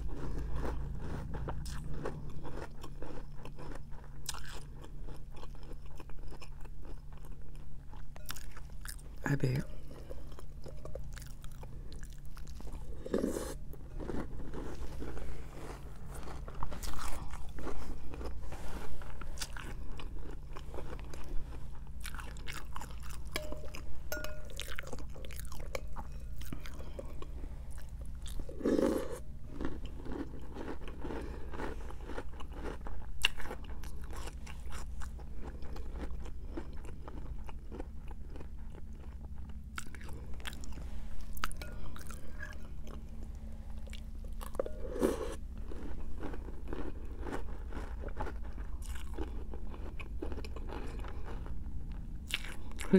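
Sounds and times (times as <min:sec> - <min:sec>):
crunching cereal: 0:00.0 - 0:07.7, 0:10.0 - 0:23.3, 0:26.4 - 0:42.3, 0:43.8 - 0:52.9.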